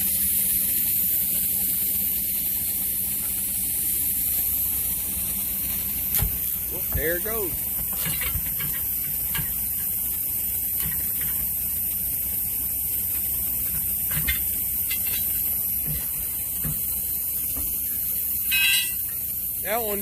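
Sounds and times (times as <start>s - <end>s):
high hiss: 0.0s - 20.0s
low hum: 0.0s - 20.0s.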